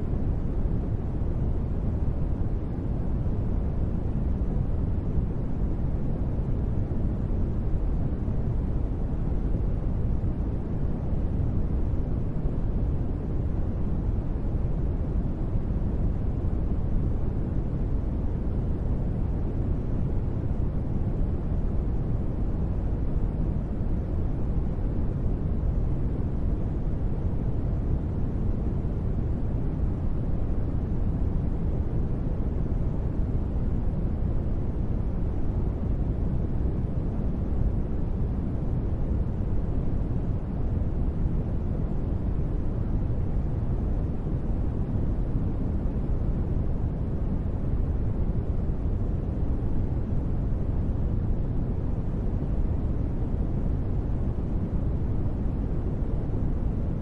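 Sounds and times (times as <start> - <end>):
deep rumbling white noise: 0.0 - 57.0.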